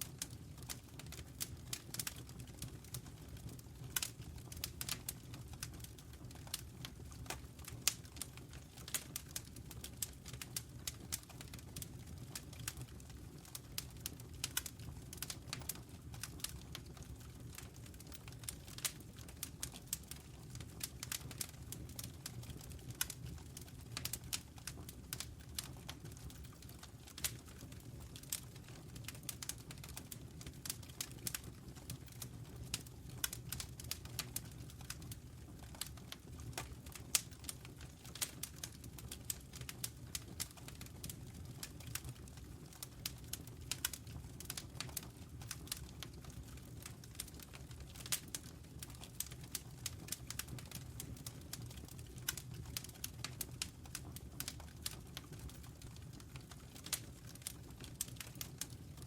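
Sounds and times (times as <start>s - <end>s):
wood crackling and popping: 0.0s - 59.0s.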